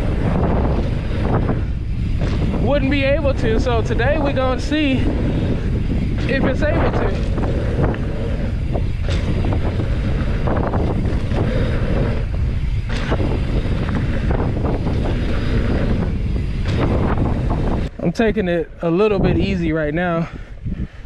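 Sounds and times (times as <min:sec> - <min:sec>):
bike clicks and knocks: 0:00.0 - 0:17.9
wind buffeting microphone: 0:00.0 - 0:21.0.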